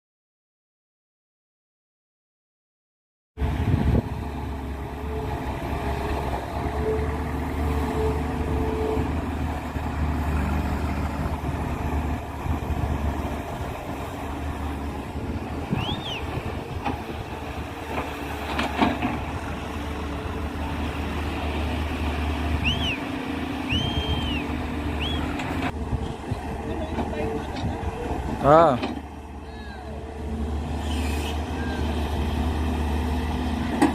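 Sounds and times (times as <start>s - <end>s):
excavator diesel engine running: 3.4s - 33.9s.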